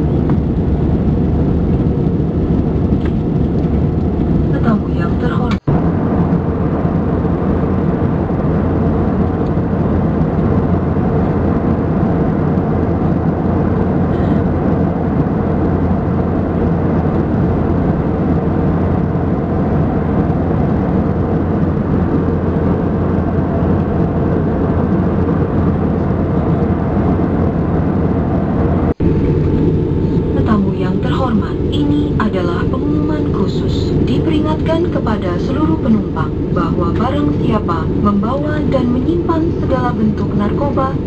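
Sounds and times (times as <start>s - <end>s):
faint steady hum: 0.0s - 41.0s
jet engine and airflow drone: 0.0s - 41.0s.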